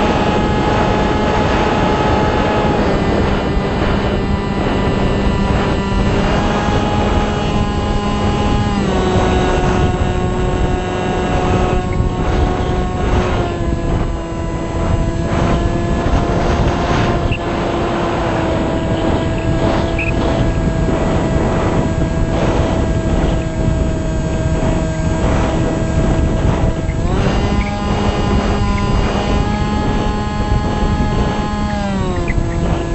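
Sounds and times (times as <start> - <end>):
model plane motor whine: 0.0 - 32.9
wind on microphone: 0.0 - 32.9.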